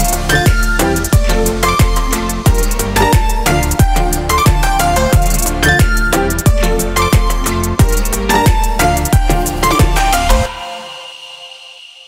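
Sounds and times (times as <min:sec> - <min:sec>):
deep kick drum: 0:00.0 - 0:10.5
synth melody notes: 0:00.0 - 0:12.0.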